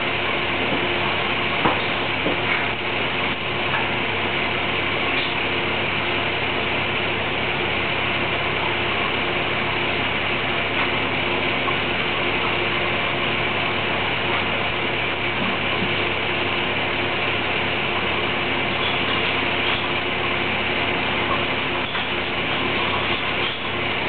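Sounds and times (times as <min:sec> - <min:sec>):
machine hum and hiss: 0:00.0 - 0:24.0.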